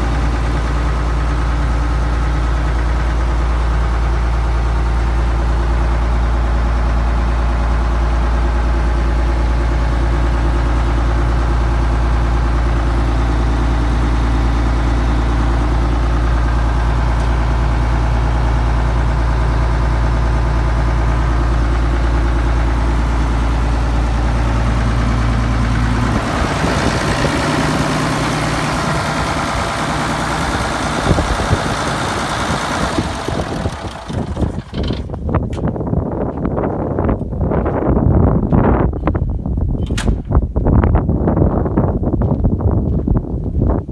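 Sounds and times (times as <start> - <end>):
tractor engine idling: 0.0 - 36.2.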